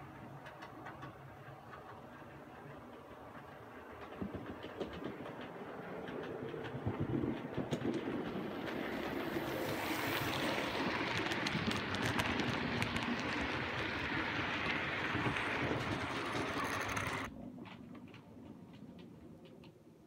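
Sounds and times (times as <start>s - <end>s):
model train running on track: 0.0s - 19.6s.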